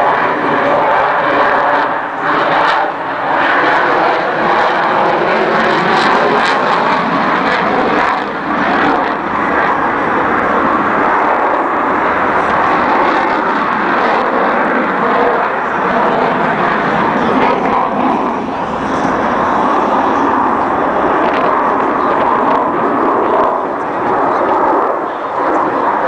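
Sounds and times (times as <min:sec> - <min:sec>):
jet engine noise: 0:00.0 - 0:26.0.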